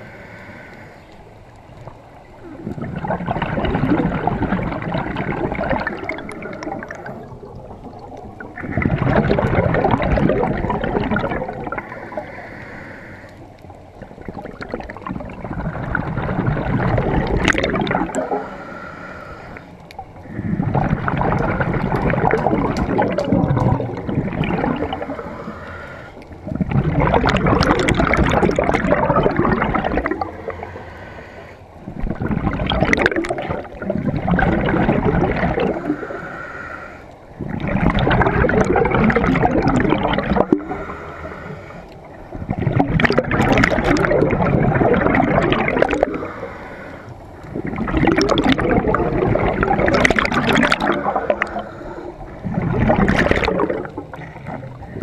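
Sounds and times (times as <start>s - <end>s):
gurgling exhaled bubbles: 1.6s - 55.0s.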